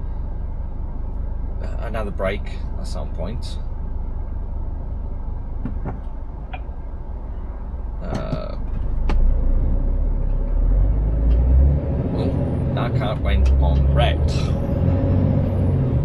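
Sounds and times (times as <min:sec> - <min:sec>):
diesel lorry engine rumbling: 0:00.0 - 0:16.0.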